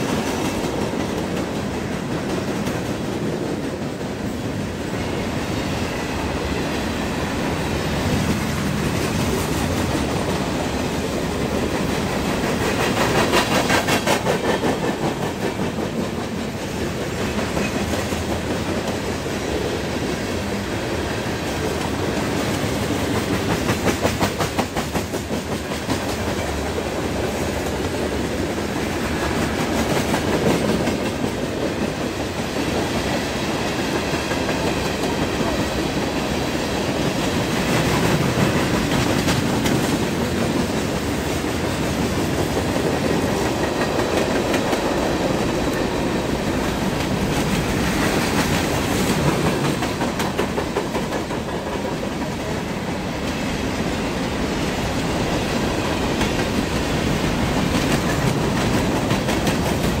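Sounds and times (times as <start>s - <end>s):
clickety-clack over rail joints: 0.0s - 60.0s
train wheels rumbling on rail: 0.0s - 60.0s.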